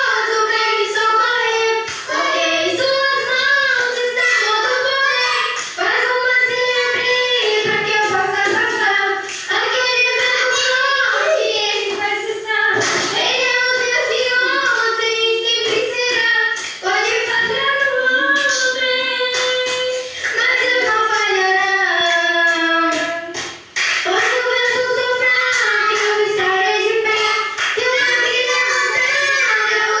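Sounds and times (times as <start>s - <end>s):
young girl singing: 0.0s - 30.0s.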